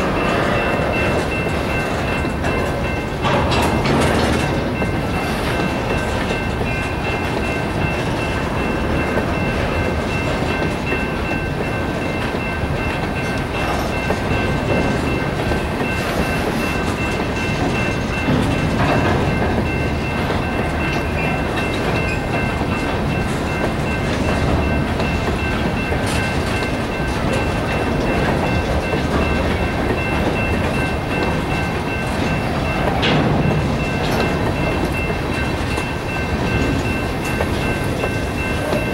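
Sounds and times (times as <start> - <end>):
crossing bell ringing: 0.0 - 38.9
train wheels clattering on rails: 0.0 - 38.9.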